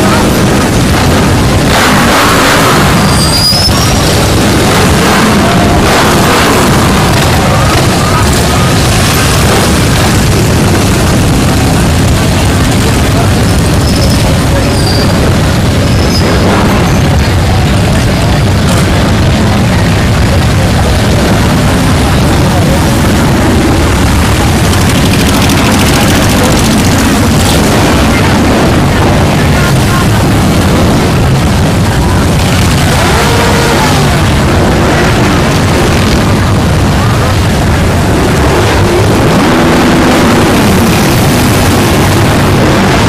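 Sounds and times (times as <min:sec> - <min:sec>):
many motorcycle engines passing: 0:00.0 - 0:43.0.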